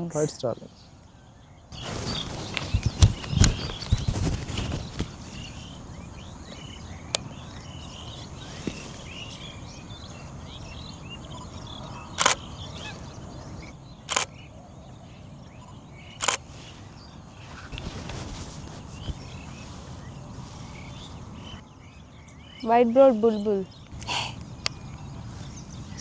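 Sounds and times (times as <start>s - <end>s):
birds chattering: 0.0s - 26.0s.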